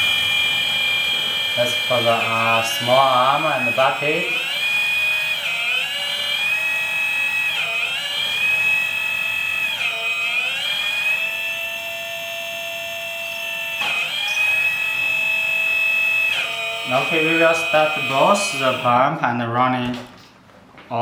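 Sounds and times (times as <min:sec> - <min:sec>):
hydraulic pump whining: 0:00.0 - 0:19.1.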